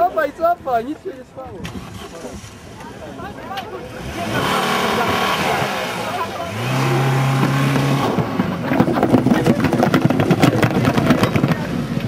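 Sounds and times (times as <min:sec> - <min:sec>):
car passing with crackles: 0:01.6 - 0:12.0.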